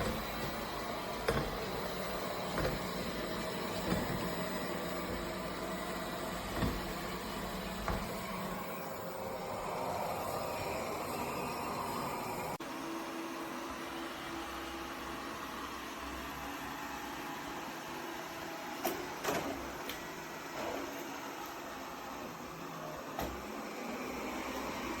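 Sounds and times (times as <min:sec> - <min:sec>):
robot vacuum cleaner whirring: 0:00.0 - 0:25.0.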